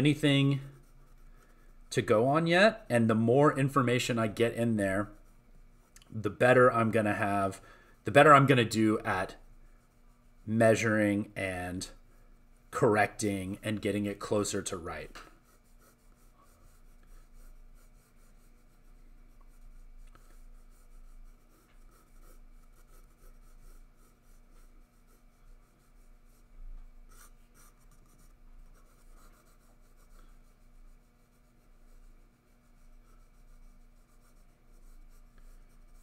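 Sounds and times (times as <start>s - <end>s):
pencil scratching on paper: 0.0s - 36.0s.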